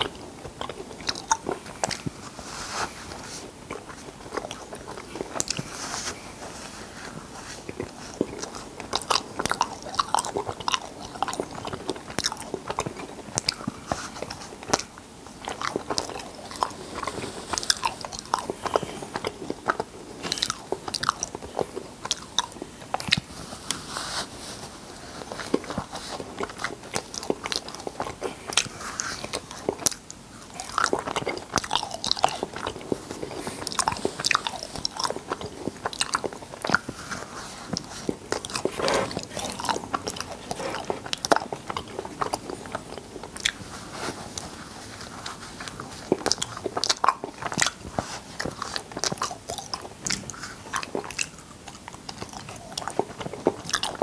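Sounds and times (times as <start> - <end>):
chewing cotton candy: 0.0 - 54.0.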